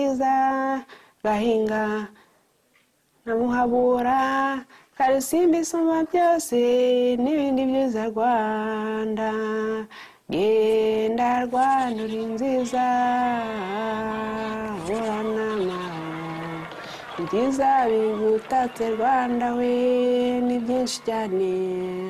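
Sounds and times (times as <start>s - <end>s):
woman singing slow melody: 0.0s - 2.2s, 3.2s - 22.0s.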